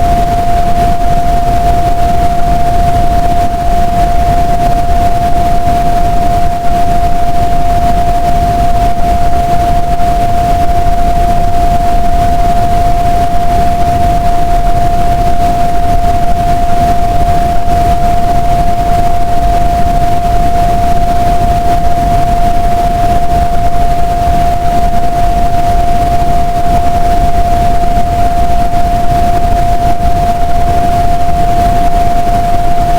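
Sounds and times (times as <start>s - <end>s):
dryer blowers rushing air: 0.0s - 32.9s
high whine: 0.0s - 32.9s.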